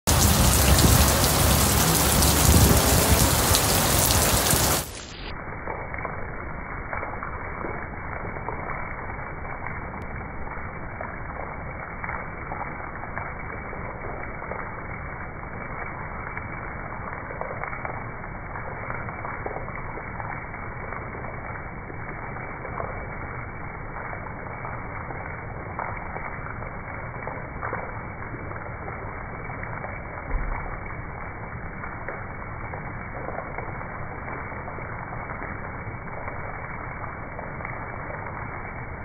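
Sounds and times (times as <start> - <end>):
heavy rain pouring: 0.0 - 39.0
raindrops splashing into water: 0.0 - 39.0.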